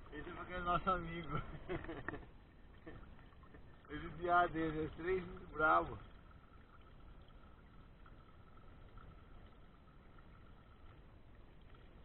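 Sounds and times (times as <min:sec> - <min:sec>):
thin steady tone: 0:00.0 - 0:12.0
water trickling into a pool: 0:00.0 - 0:12.0.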